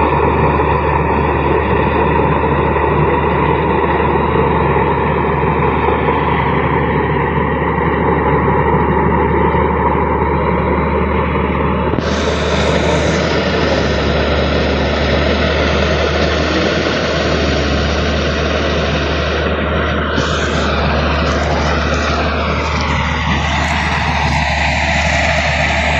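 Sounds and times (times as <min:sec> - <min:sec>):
combine harvester running: 0:00.0 - 0:25.9.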